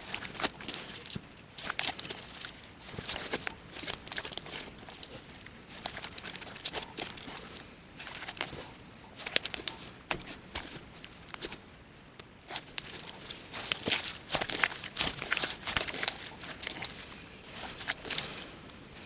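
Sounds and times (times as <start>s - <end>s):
slime squelching by hand: 0.0s - 18.9s.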